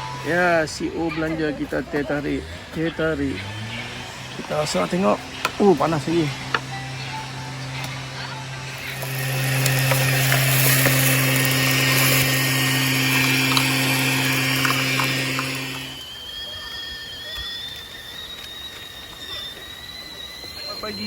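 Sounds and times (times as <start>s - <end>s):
small motor with rushing hiss: 0.0s - 21.0s
thin high steady tone: 0.0s - 21.0s.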